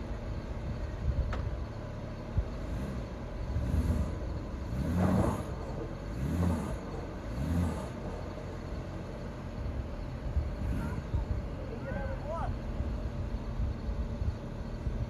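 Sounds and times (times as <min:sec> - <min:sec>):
car engine revving under load: 0:02.3 - 0:15.0.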